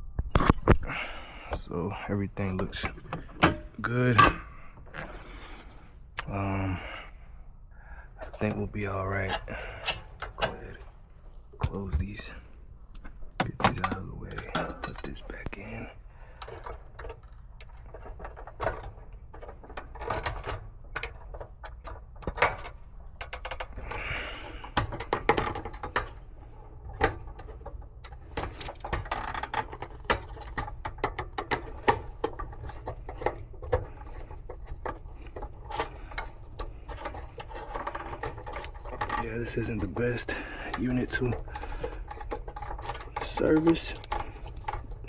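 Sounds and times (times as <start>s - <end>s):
steady low hum: 0.0s - 45.0s
hand tools clattering: 2.6s - 5.6s, 8.2s - 11.0s, 13.0s - 45.0s.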